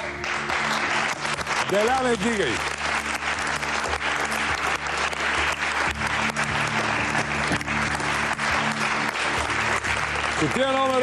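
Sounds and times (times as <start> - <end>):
audience applauding: 0.0 - 11.0
background music: 0.0 - 11.0.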